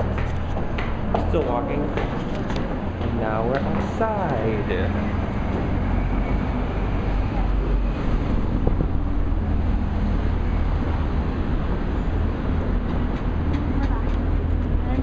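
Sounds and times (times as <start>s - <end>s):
passing traffic rumble: 0.0s - 15.0s
wind buffeting microphone: 0.0s - 15.0s.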